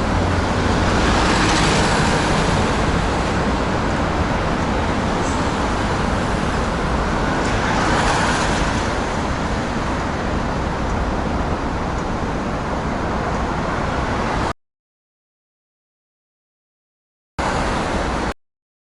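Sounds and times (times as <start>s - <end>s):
road traffic noise: 0.0s - 14.6s, 17.4s - 18.4s.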